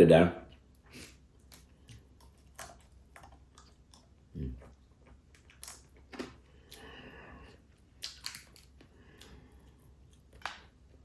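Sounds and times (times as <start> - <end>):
person chewing crab: 0.5 - 11.0.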